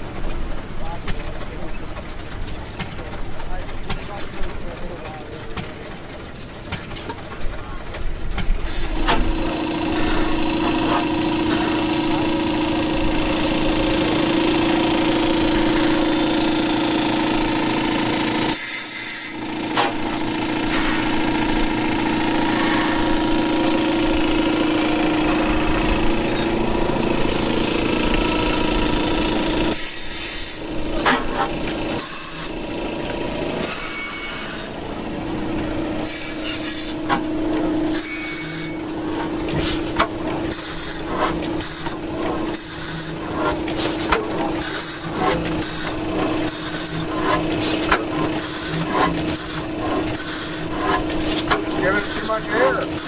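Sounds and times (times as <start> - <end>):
antique machinery droning: 8.4 - 53.0.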